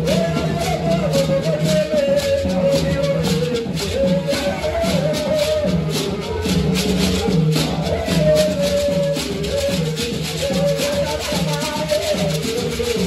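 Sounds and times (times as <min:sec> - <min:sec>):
gourd rattles shaken: 0:00.0 - 0:13.0
group of voices singing: 0:00.0 - 0:13.0.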